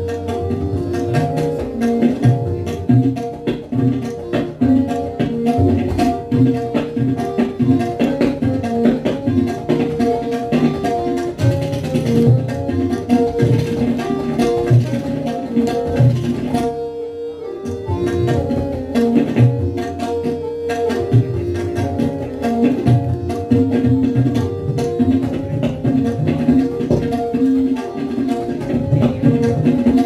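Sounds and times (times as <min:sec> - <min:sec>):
harmonium melody: 0:00.0 - 0:30.0
tabla drumming: 0:00.0 - 0:30.0.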